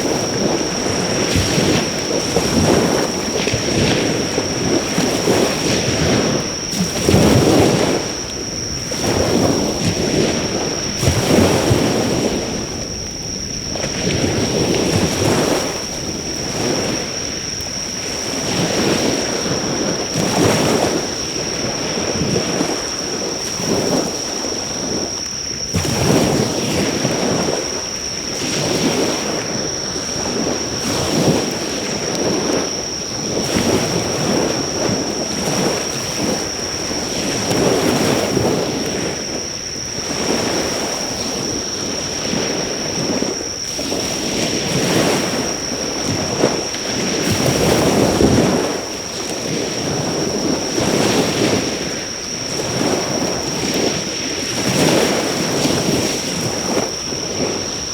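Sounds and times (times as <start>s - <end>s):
insects trilling: 0.0s - 57.9s
sea waves breaking on shore: 0.0s - 57.9s.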